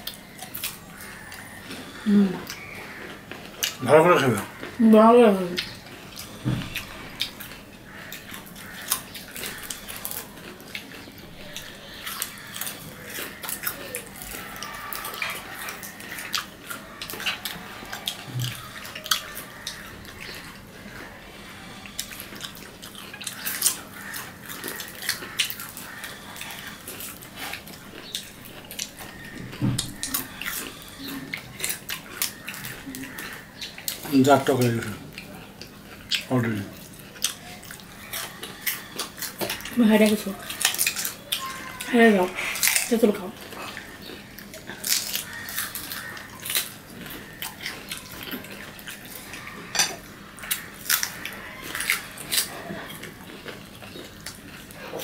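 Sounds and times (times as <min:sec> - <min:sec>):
crunching fruit: 0:00.0 - 0:55.0.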